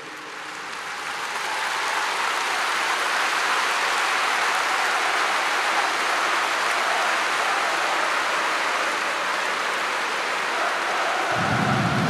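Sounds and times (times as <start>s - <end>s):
stadium crowd applauding: 0.0s - 12.0s.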